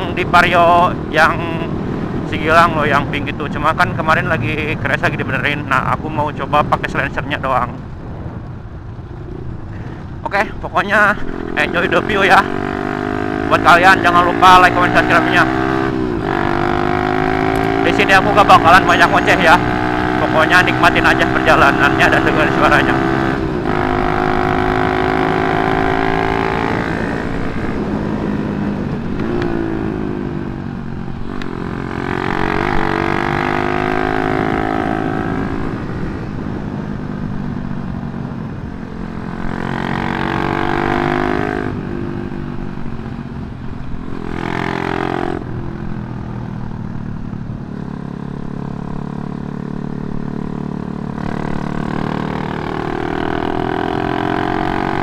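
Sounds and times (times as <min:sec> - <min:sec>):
motorcycle engine revving: 0:09.0 - 0:55.0.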